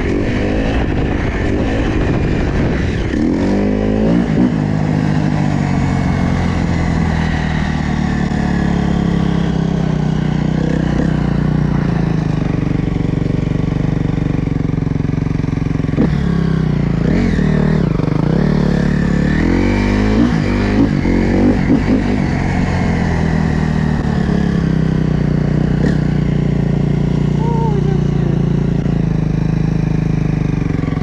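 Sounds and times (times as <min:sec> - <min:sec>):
dirt bike engine revving: 0:00.0 - 0:13.3, 0:15.1 - 0:31.0.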